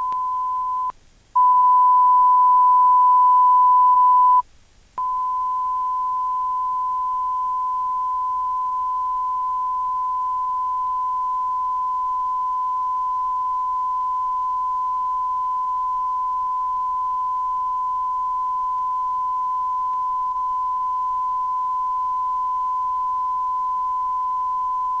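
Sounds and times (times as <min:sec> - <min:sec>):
sine test tone: 0:00.0 - 0:04.4, 0:05.0 - 0:25.0
faint tape hiss: 0:00.0 - 0:25.0.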